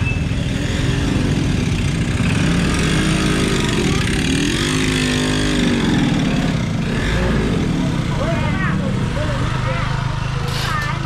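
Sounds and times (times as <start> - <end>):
street noise: 0.0 - 11.0
vehicle engine revving: 0.4 - 10.3.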